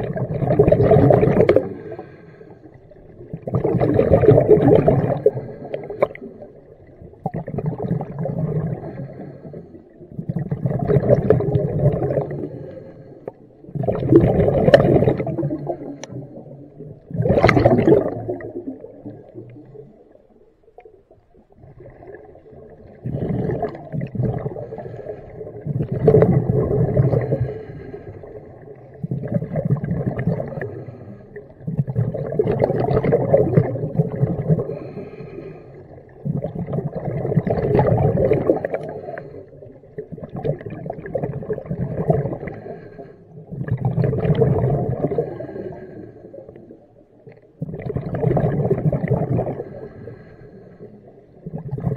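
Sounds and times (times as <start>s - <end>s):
muffled underwater water movement: 0.0s - 51.9s.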